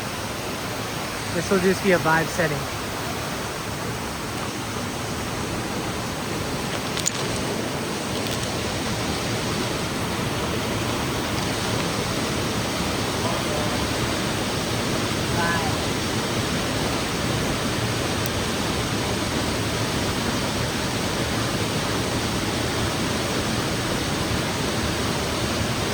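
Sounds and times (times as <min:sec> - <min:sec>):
waterfall rushing into pool: 0:00.0 - 0:25.9.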